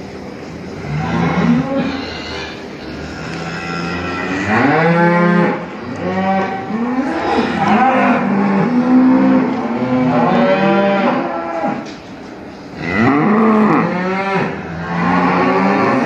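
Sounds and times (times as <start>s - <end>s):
cattle mooing: 0.9s - 12.0s, 12.8s - 16.0s.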